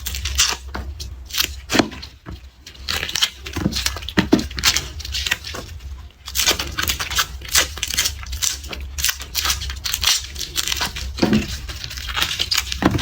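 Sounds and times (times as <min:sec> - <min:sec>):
garlic skin crackling and rustling: 0:00.0 - 0:13.0.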